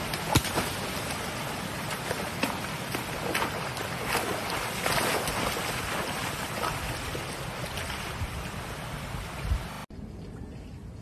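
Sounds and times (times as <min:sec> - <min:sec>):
splashing in water: 0:00.0 - 0:09.2
water rushing over a weir: 0:00.0 - 0:09.8
wind buffeting microphone: 0:00.8 - 0:11.0.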